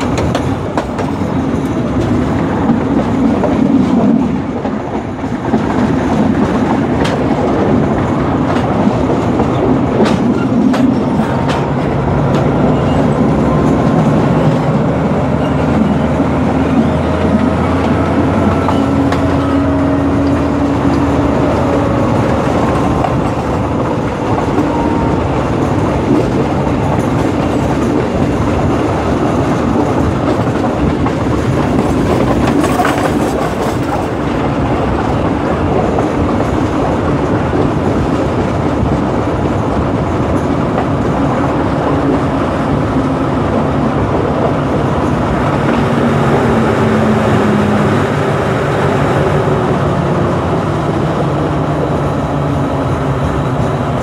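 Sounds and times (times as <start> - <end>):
wheels clattering over rails: 0.0 - 49.2
diesel locomotive engine drone: 0.0 - 54.0.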